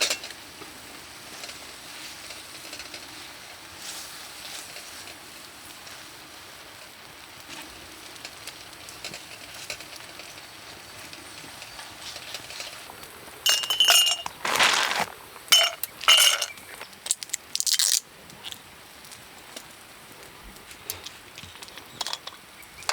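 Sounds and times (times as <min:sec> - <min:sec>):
batter sizzling on iron plate: 0:00.0 - 0:20.2.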